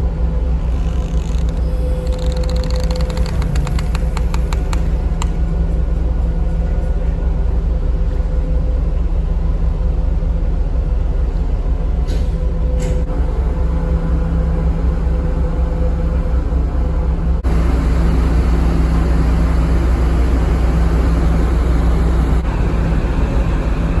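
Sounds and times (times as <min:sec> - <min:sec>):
ferry engines droning: 0:00.0 - 0:24.0.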